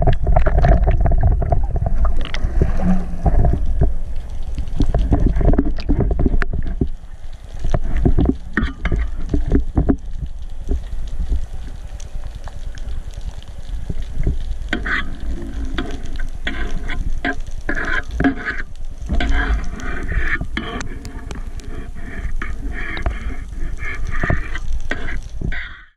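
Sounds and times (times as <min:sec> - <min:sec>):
crackling sizzle-like patter: 0:00.0 - 0:25.9
heavy low underwater rumbling: 0:00.0 - 0:25.9
water sloshing and bubbling: 0:00.0 - 0:25.9.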